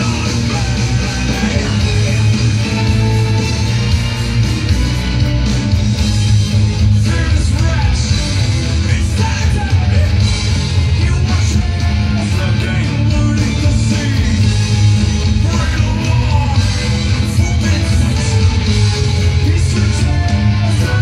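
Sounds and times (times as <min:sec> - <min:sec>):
electric guitar playing: 0:00.0 - 0:21.0
rock backing track: 0:00.0 - 0:21.0.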